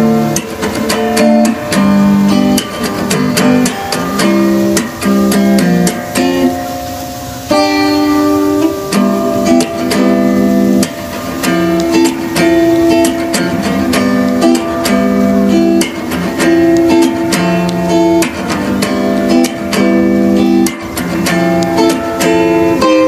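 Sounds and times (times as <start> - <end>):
guitar music with steady beat: 0.0 - 23.0.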